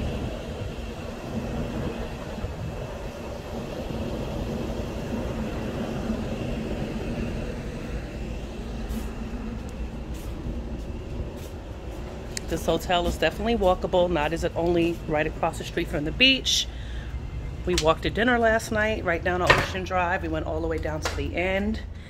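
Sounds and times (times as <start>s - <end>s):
faint high whine: 0.0s - 19.4s
air conditioning units humming: 0.0s - 22.0s.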